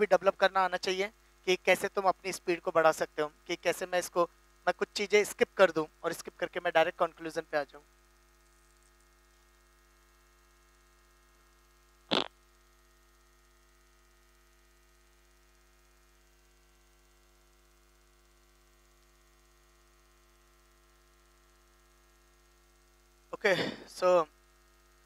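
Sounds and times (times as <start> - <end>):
faint electrical mains hum: 0.0 - 25.0.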